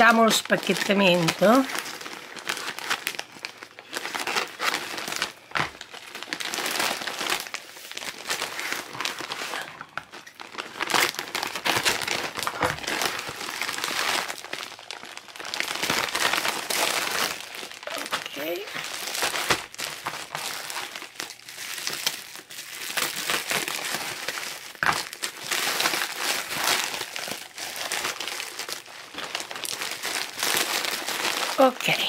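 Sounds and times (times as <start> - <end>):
bubble wrap rustling: 0.0 - 32.0
plastic mailer bag crinkling: 0.0 - 32.0.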